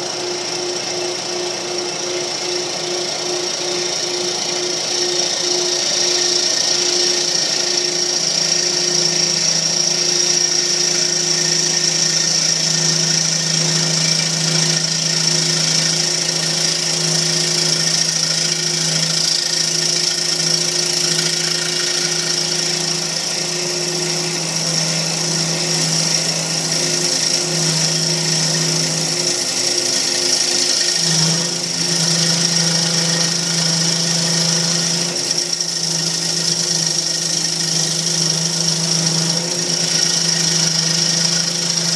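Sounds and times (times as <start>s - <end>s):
wood lathe humming: 0.0s - 41.9s.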